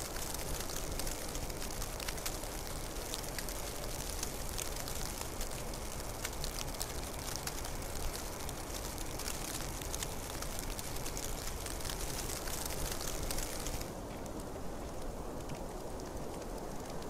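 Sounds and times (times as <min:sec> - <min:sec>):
snow ticking: 0:00.0 - 0:17.0.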